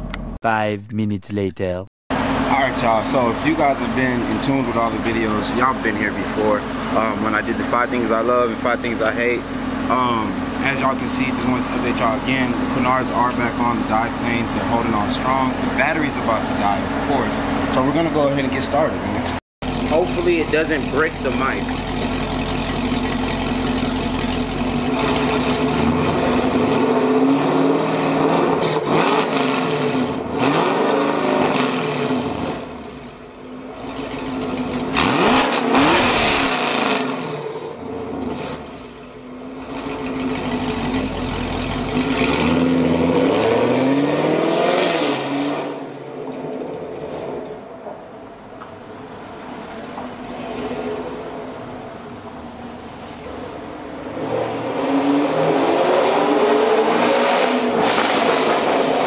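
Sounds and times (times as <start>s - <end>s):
car engine idling and revving: 2.1s - 59.0s.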